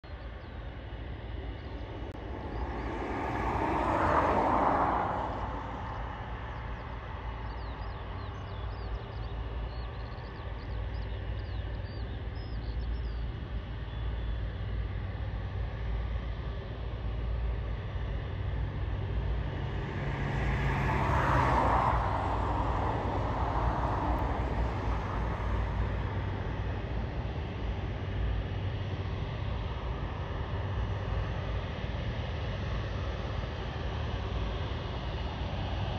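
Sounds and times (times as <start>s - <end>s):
distant jet engines rumbling: 0.1s - 35.9s.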